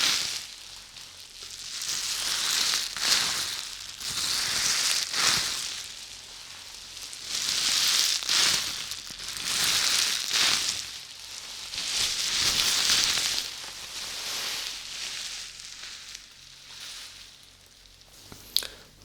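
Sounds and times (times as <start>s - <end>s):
soft hissing rustling: 0.0s - 19.0s.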